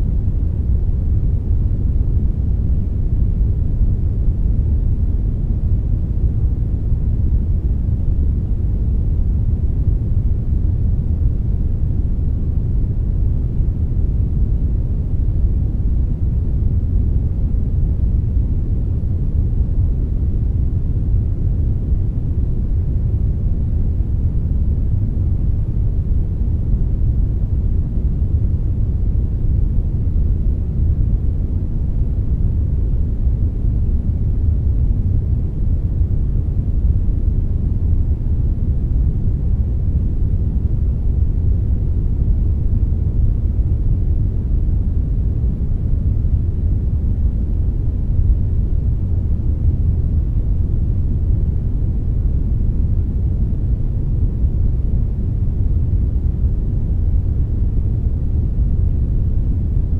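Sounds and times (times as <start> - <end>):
rumbling hiss of brown noise: 0.0 - 59.9.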